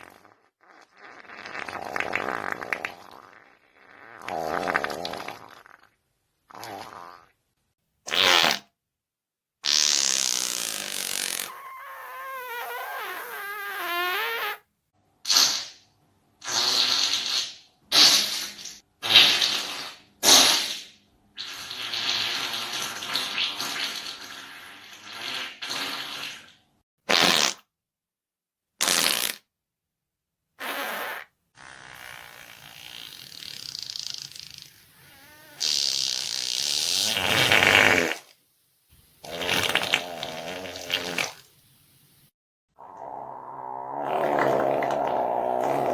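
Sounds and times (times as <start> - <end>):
farts: 0.0 - 7.4, 8.1 - 8.7, 9.6 - 14.7, 15.3 - 15.8, 16.4 - 27.7, 28.8 - 29.5, 30.6 - 38.4, 39.2 - 41.5, 42.8 - 45.9.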